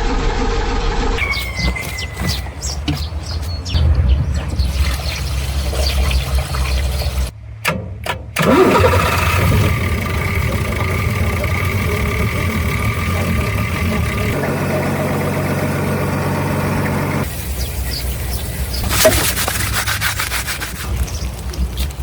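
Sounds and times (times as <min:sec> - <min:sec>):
diesel engine starting and running: 0:00.0 - 0:19.6.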